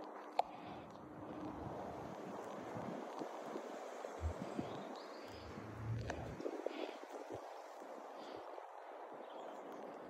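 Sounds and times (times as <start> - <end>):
wind hiss on microphone: 0.0 - 10.0.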